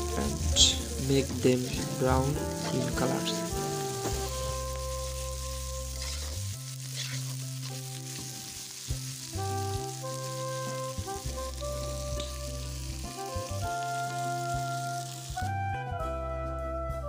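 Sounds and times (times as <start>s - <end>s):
onions sizzling in hot oil: 0.0s - 15.6s
soft background music: 0.0s - 17.0s.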